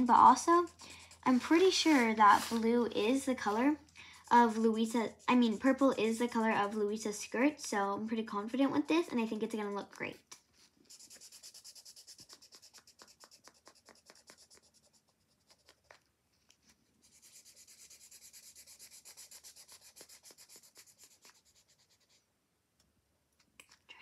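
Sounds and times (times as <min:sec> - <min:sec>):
marker scratching on paper: 0:00.0 - 0:07.8, 0:09.0 - 0:16.0, 0:17.0 - 0:22.2.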